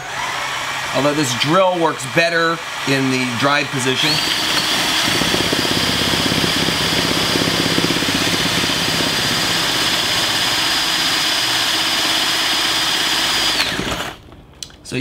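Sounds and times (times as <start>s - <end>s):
electric drill whine: 0.0s - 14.2s.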